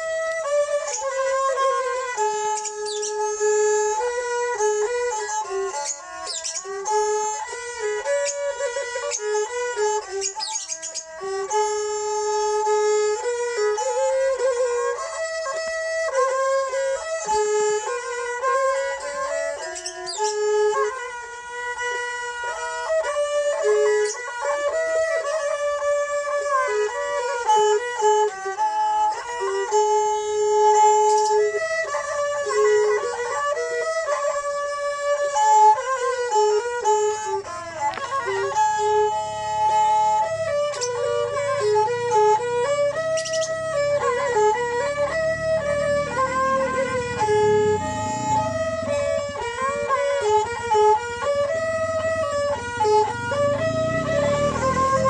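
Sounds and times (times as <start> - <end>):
bowed fiddles playing melody: 0.0 - 55.0.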